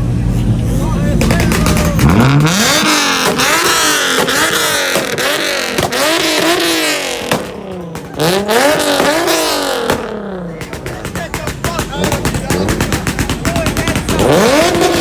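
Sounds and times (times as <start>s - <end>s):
car engine revving: 0.0s - 15.0s
exhaust cracks: 0.0s - 15.0s.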